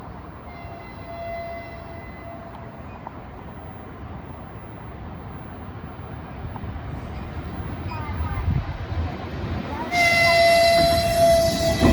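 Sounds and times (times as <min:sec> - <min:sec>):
freight train rumbling: 0:00.0 - 0:11.9.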